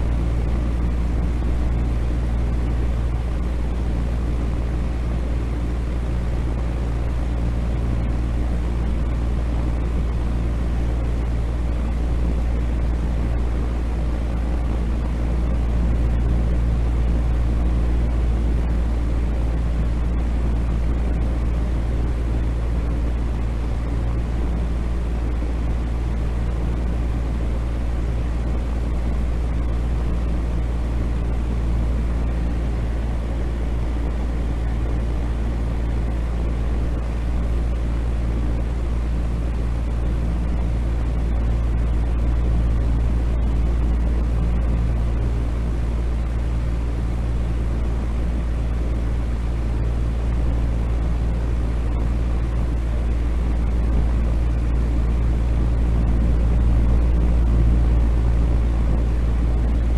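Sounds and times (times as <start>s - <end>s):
faint steady hum: 0.0s - 59.9s
low rumbling noise: 0.0s - 59.9s.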